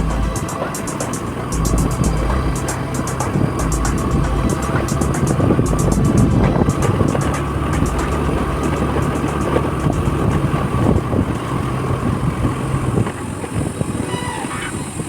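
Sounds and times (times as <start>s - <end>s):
scooter engine running: 0.0s - 14.8s.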